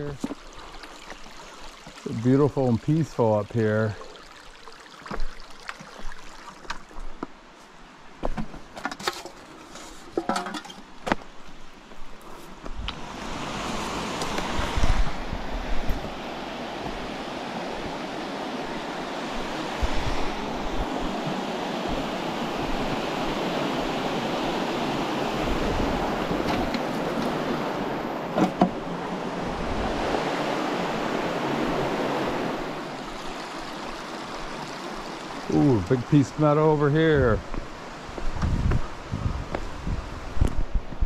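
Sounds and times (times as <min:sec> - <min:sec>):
creek water running over rocks: 0:00.0 - 0:40.5.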